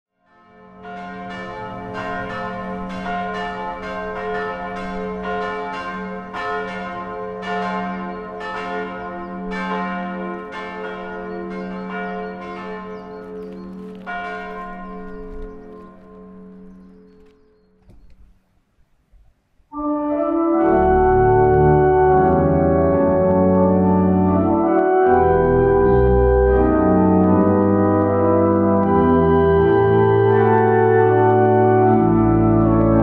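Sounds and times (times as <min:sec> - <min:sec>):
church bells ringing: 0:00.1 - 0:17.8, 0:19.8 - 0:33.0.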